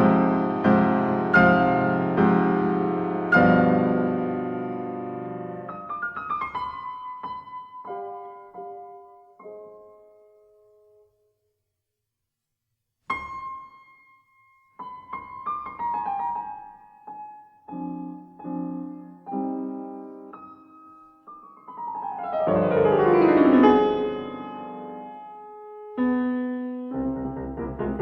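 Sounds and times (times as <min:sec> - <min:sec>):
piano music: 0:00.0 - 0:11.2, 0:13.1 - 0:28.0.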